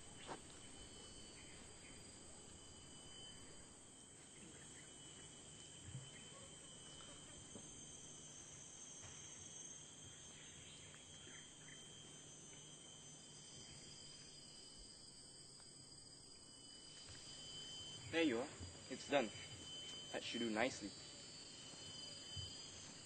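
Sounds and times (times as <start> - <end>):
insect trilling: 0.0 - 23.0.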